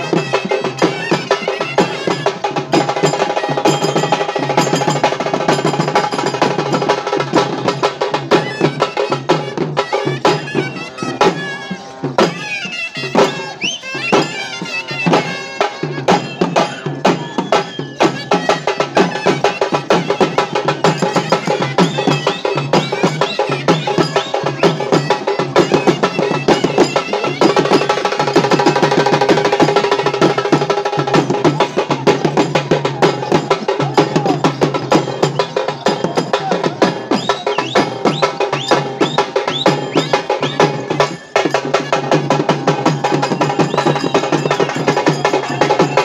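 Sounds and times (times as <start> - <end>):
fast steady drumming: 0.0 - 46.0
wind instrument melody: 0.0 - 46.0.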